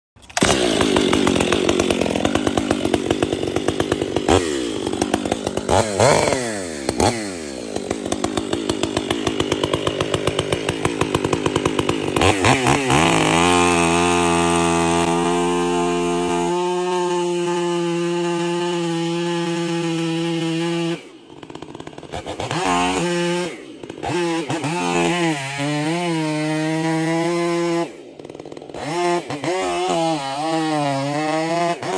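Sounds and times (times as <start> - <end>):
chainsaw cutting wood: 0.2 - 31.9.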